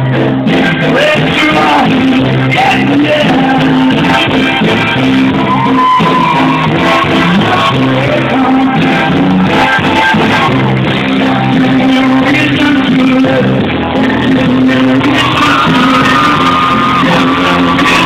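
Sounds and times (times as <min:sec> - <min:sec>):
loud music with singing: 0:00.0 - 0:18.0
repeating bass line: 0:00.0 - 0:18.0.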